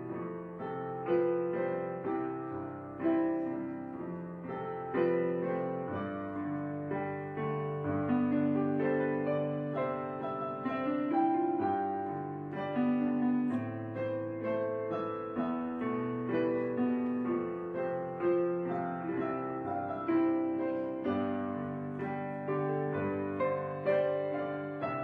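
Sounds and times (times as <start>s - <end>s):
slow piano piece: 0.0s - 25.0s.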